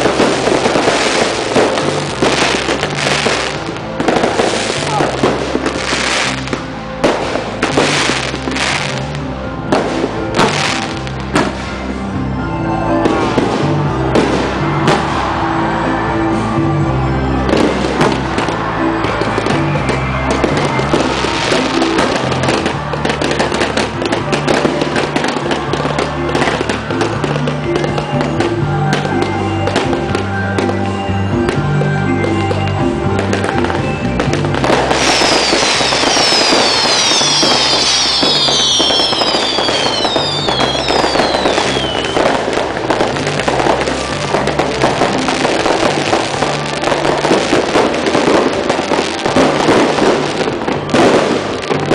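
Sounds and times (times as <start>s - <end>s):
fireworks bursting: 0.0s - 12.1s, 13.0s - 15.8s, 17.2s - 51.9s
music with held notes: 0.0s - 51.9s.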